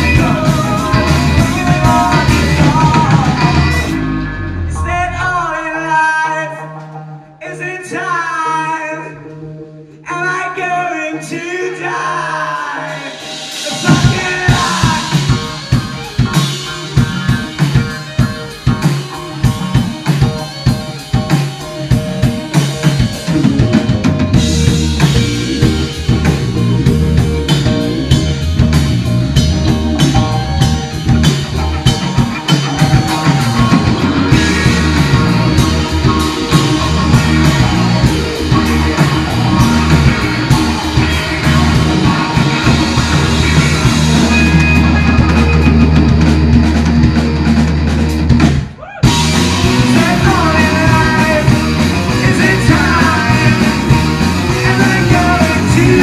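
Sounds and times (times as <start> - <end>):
drums: 0.0 - 56.0
rock band playing live: 0.0 - 56.0.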